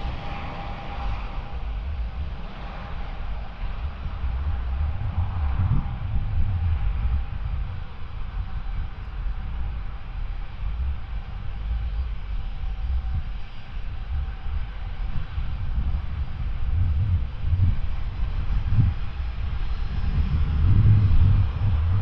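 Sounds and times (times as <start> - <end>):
faint high engine whine: 0.0 - 22.0
jet engines rumbling: 0.0 - 22.0.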